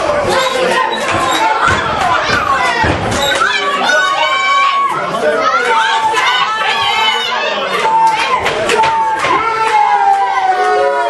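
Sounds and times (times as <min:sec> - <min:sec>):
crowd shouting: 0:00.0 - 0:11.0.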